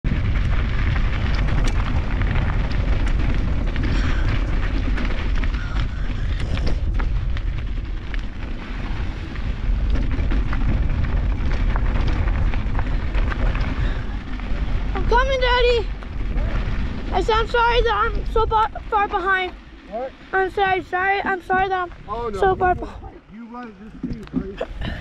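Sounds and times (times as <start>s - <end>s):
bike ticks and rattles: 0.0s - 25.0s
wind buffeting microphone: 0.0s - 25.0s.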